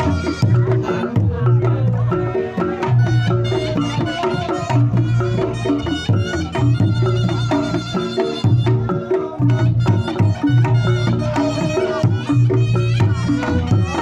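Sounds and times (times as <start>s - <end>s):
reedy wind instrument melody: 0.0s - 1.2s, 2.8s - 14.0s
hand drum strokes: 0.0s - 14.0s.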